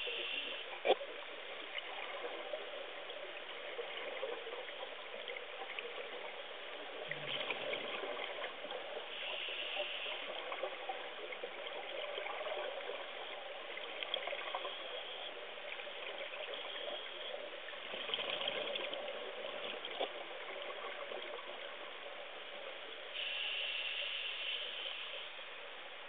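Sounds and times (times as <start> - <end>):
muffled underwater hiss: 0.0 - 26.0.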